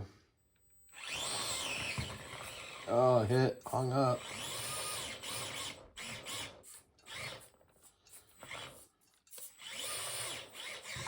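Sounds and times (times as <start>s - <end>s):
small motor and gears whining: 0.7s - 11.0s.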